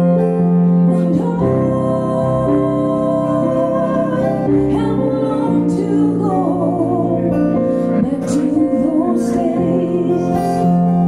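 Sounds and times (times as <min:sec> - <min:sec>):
acoustic guitar chords: 0:00.0 - 0:11.0
electronic keyboard chords: 0:00.0 - 0:11.0
person singing: 0:00.0 - 0:11.0.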